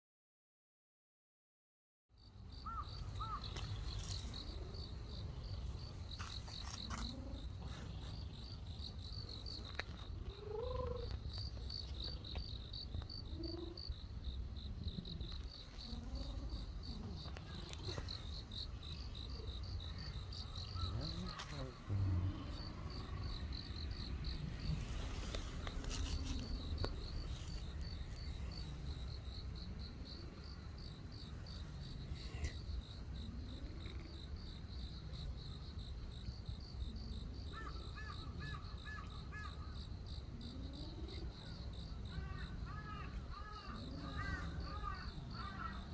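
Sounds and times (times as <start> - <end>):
insects trilling: 2.2 - 45.9.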